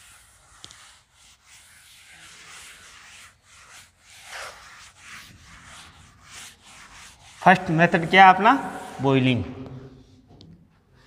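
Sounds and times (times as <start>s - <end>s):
cloth rubbing on chalkboard: 0.0s - 10.4s.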